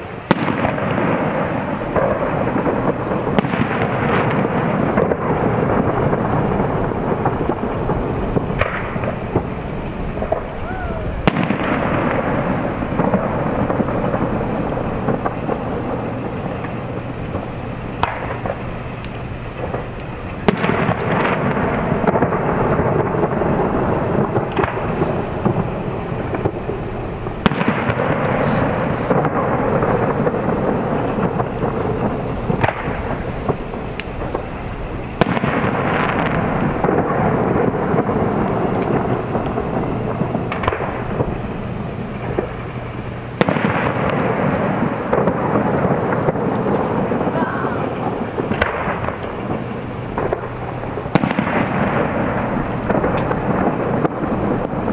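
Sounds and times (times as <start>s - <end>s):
firework shells bursting: 0.0s - 54.9s.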